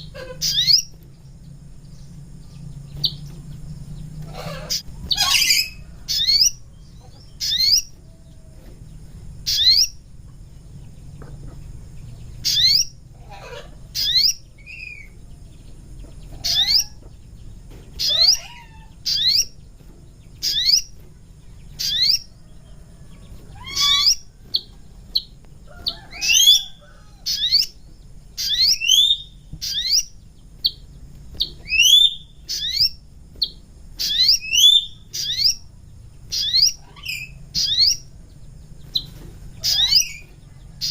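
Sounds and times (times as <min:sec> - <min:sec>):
bird chirping call: 0:00.0 - 0:40.9
faint low hum: 0:00.0 - 0:40.9.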